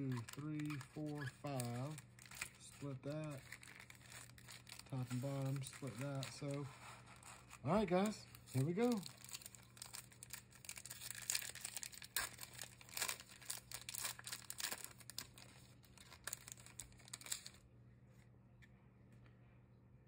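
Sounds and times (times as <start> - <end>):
wrapper tearing and crinkling: 0.0 - 17.6.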